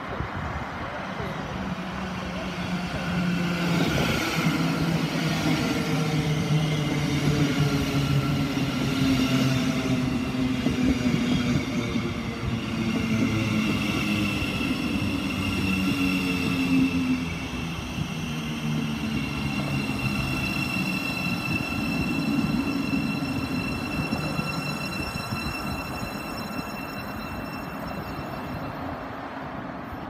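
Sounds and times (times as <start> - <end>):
electric train rumbling: 0.0 - 30.0
high-pitched train whine: 0.0 - 30.0.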